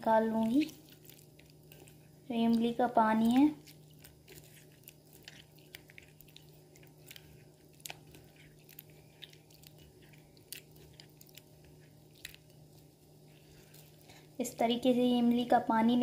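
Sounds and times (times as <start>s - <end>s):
wet squelches: 0.0s - 14.6s.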